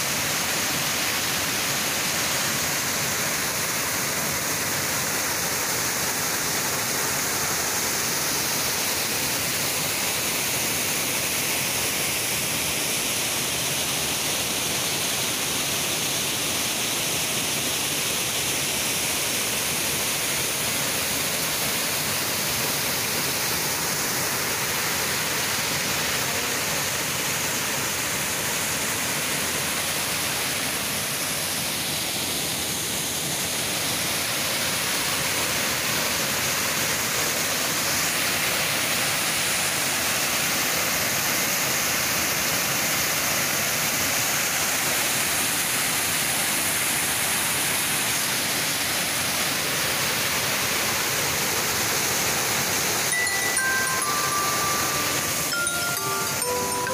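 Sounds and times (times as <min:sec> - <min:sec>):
waterfall splashing into pool: 0:00.0 - 0:56.9.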